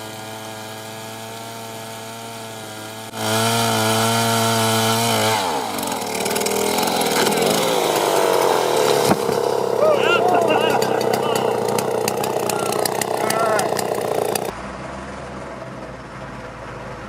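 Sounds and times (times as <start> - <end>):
saw cutting into wood: 0.0 - 14.5
wood-cutting machine running: 0.0 - 14.5.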